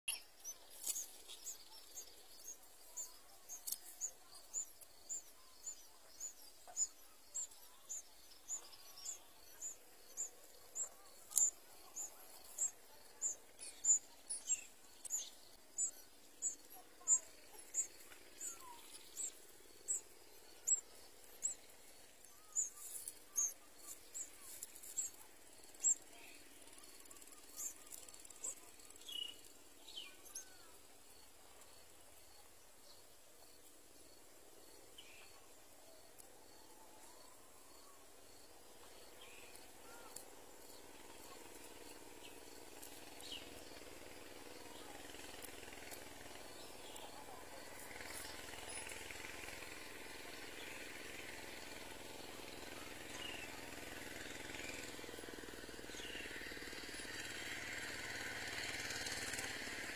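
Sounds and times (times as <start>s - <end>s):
nestlings cheeping: 0.1s - 30.9s, 39.1s - 59.8s.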